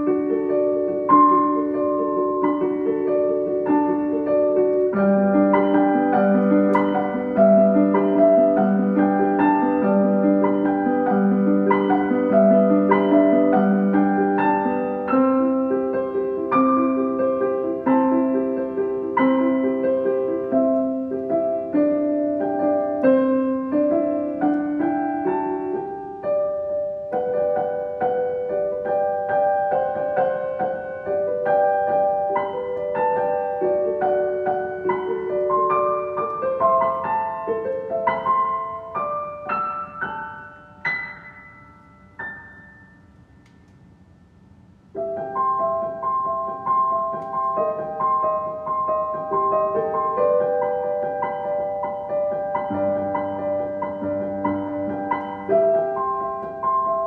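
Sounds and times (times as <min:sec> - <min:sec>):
solo piano piece: 0:00.0 - 0:57.0.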